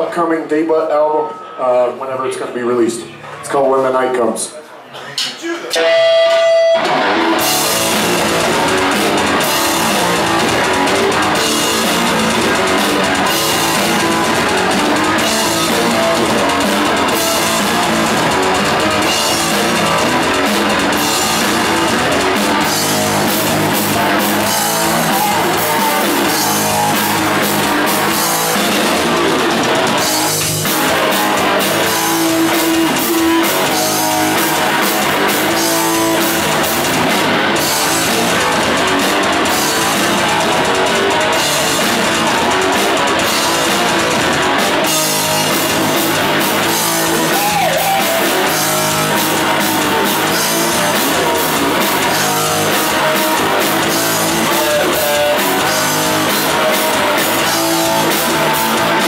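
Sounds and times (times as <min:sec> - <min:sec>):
bass guitar: 0:05.7 - 0:59.0
drum kit: 0:05.7 - 0:59.0
electric guitar: 0:05.7 - 0:59.0.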